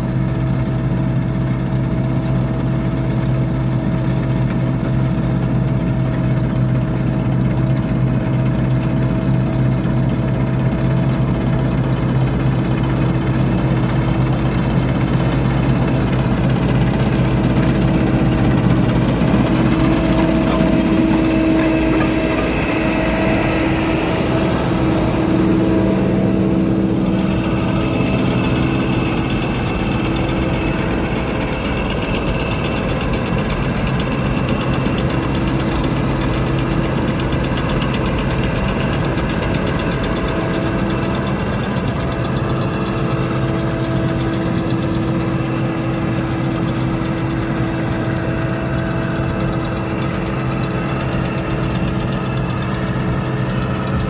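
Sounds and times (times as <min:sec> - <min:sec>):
diesel engine running: 0:00.0 - 0:54.0
faint high machine whine: 0:00.0 - 0:54.0.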